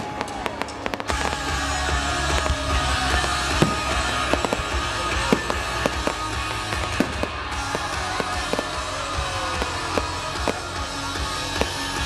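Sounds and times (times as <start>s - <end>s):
fireworks bursting and crackling: 0.0s - 12.0s
music playing: 0.0s - 12.0s.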